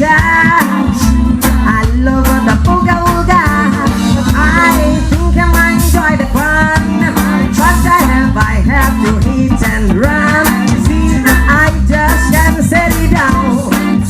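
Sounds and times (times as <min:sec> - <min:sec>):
reggae band playing: 0:00.0 - 0:14.0
woman singing: 0:00.0 - 0:14.0.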